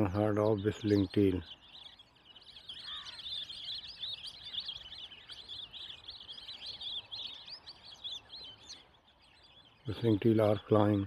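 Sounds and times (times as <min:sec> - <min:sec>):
whistling ducks calling: 0:00.0 - 0:11.0.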